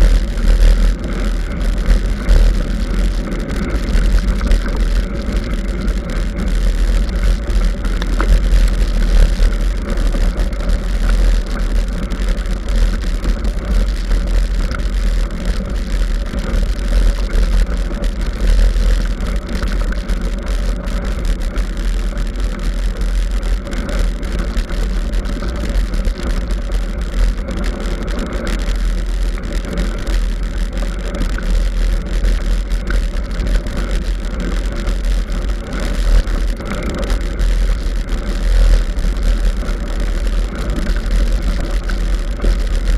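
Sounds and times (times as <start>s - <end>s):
mountain bike rumbling and rattling: 0.0s - 42.9s.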